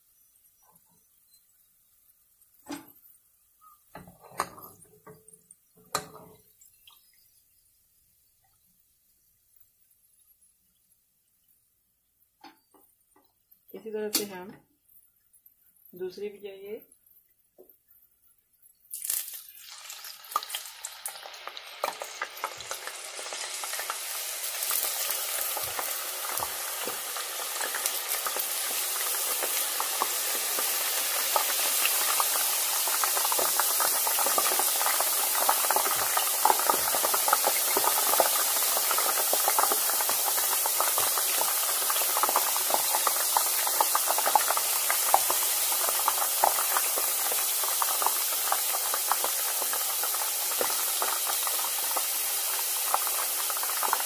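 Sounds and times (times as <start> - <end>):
potato slices sizzling in oil: 0.0 - 15.0, 17.6 - 54.0.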